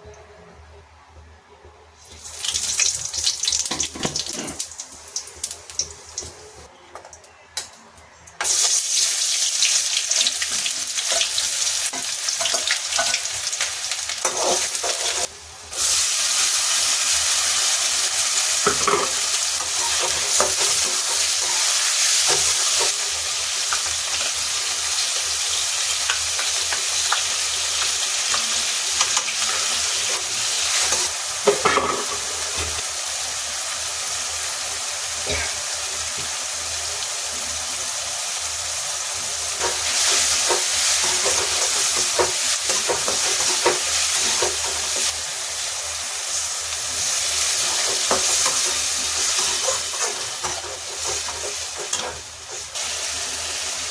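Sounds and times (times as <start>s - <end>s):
vegetables sizzling in hot oil: 2.0s - 6.6s, 8.4s - 53.9s.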